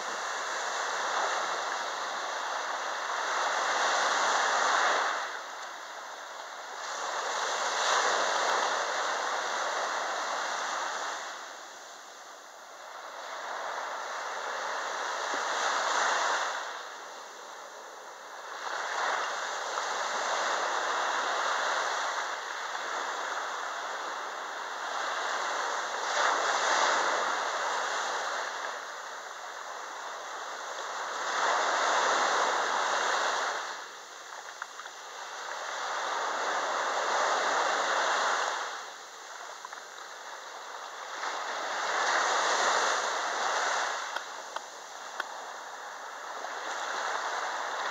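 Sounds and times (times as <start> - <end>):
small waves breaking on beach: 0.0 - 47.9.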